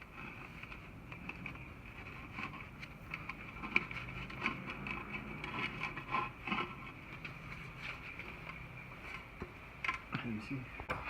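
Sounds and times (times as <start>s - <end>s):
light clicks and scrapes: 0.0s - 10.3s.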